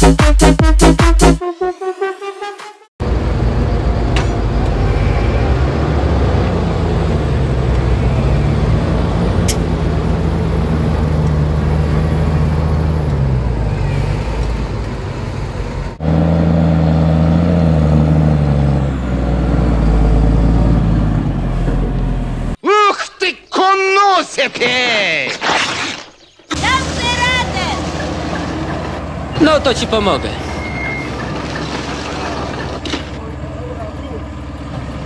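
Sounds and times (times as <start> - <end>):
diesel tractor engines under load: 3.0 - 22.6, 26.3 - 35.0.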